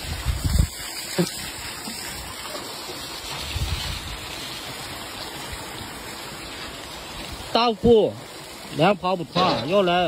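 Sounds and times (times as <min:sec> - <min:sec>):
aerator churning water: 0:00.0 - 0:10.0.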